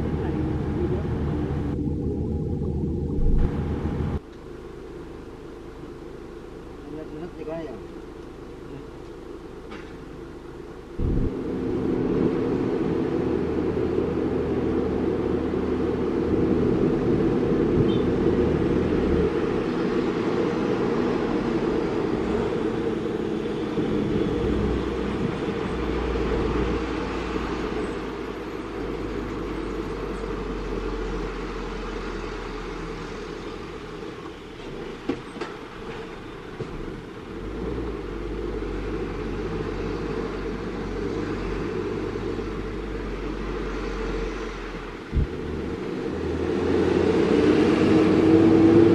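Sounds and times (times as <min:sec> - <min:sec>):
diesel truck engine drone: 0:00.0 - 0:48.9
road and chassis rumble: 0:00.0 - 0:48.9.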